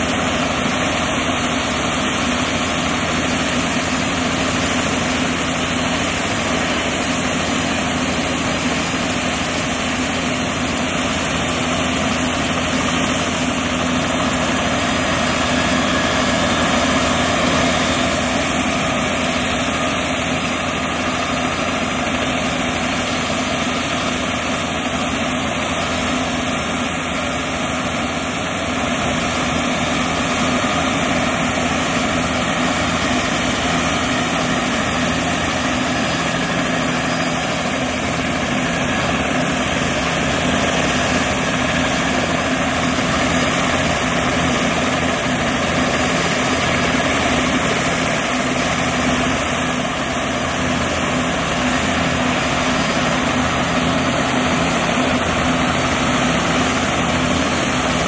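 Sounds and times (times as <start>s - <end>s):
helicopter rotor and engine noise: 0.0s - 58.0s
high turbine whine: 0.0s - 58.0s.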